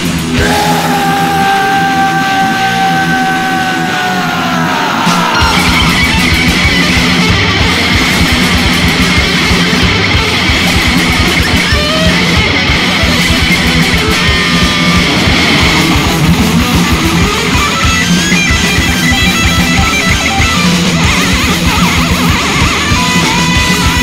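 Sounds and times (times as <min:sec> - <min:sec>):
bass guitar: 0:00.0 - 0:24.0
distorted electric guitars riffing: 0:00.0 - 0:24.0
drums: 0:00.0 - 0:24.0.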